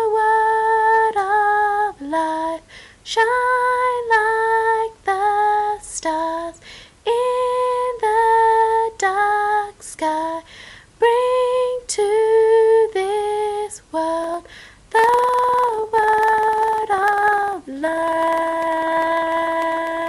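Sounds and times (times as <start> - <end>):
woman singing slow melody: 0.0 - 20.0.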